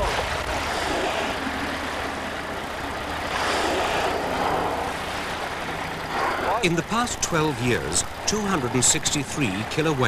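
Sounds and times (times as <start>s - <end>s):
boat motor hum: 0.0s - 10.0s
water rushing: 0.0s - 10.0s.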